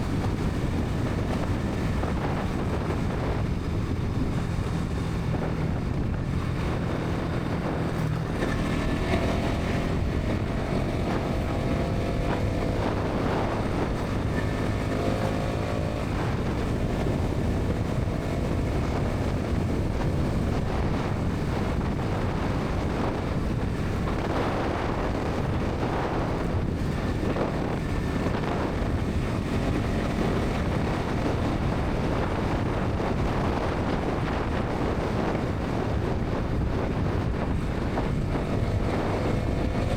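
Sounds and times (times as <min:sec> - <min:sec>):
motorcycle engine at speed: 0:00.0 - 0:39.9
wind noise on microphone: 0:00.0 - 0:39.9.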